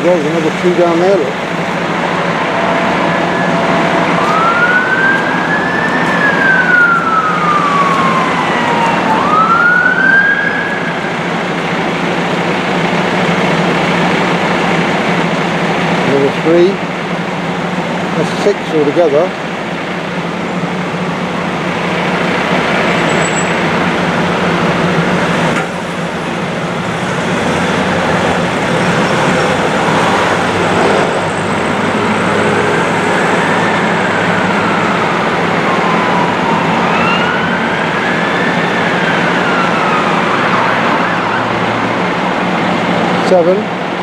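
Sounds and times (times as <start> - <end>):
city traffic noise: 0.0 - 44.0
fire engine siren wailing: 0.0 - 44.0.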